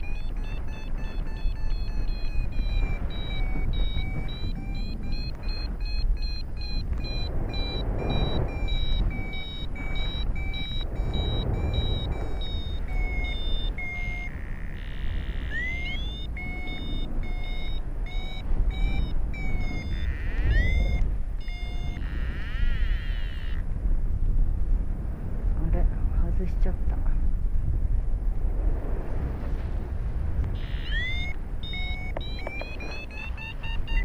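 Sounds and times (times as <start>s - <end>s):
variometer beeping: 0.0s - 23.7s, 30.4s - 34.0s
steady lower tone: 0.0s - 24.4s, 30.4s - 34.0s
wind rushing over microphone: 0.0s - 34.0s.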